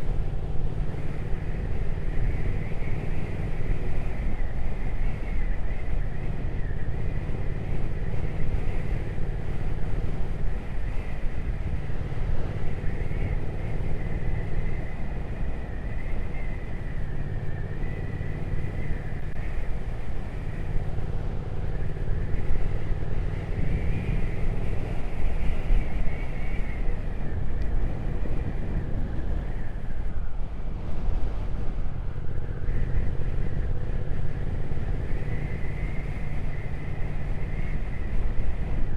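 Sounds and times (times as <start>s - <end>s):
motorcycle engine running: 0.0s - 38.9s
wind rush over microphone: 0.0s - 38.9s.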